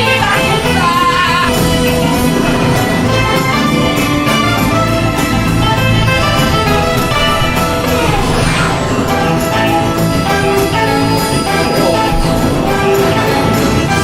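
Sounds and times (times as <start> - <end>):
percussion strikes: 0.0 - 14.0
orchestral music: 1.4 - 14.0.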